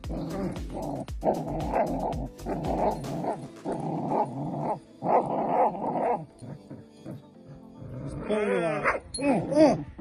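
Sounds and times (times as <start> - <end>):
puppy growling: 0.0 - 9.9.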